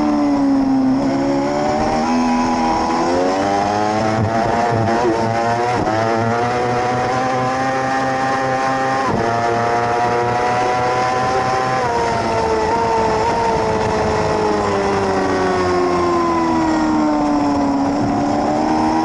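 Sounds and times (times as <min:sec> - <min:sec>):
racing motorcycle accelerating: 0:00.0 - 0:19.0.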